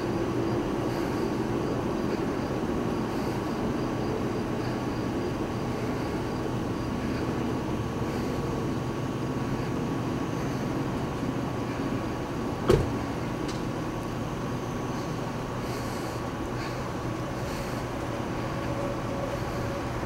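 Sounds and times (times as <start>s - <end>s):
thin steady hum: 0.0s - 20.0s
train rumbling: 0.0s - 20.0s.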